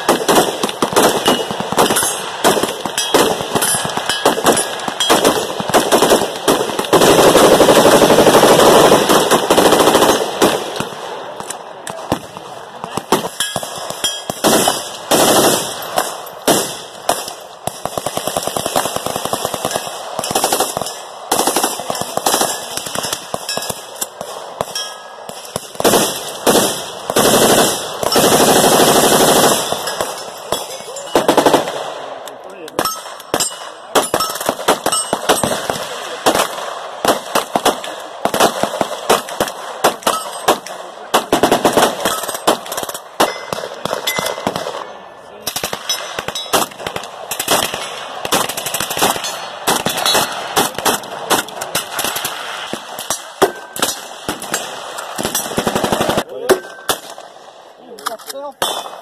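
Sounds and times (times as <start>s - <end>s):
rapid overlapping gunfire: 0.0s - 59.0s.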